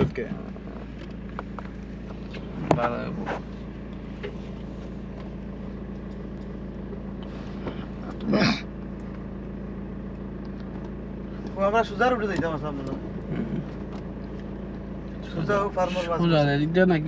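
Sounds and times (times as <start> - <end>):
car engine hum from inside: 0.0 - 17.0.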